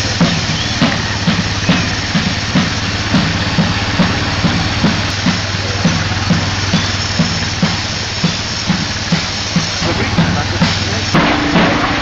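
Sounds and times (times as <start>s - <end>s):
steady drumbeat: 0.0s - 12.0s.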